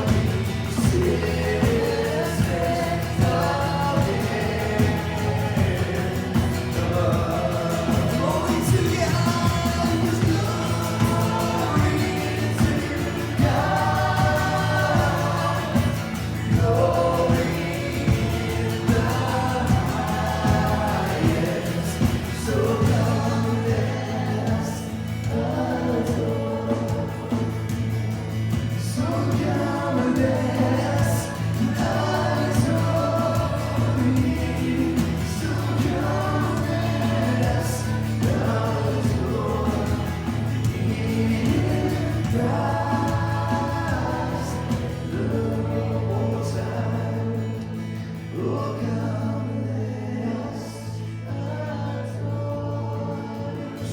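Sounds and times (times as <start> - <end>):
group singing worship music: 0.0 - 53.9.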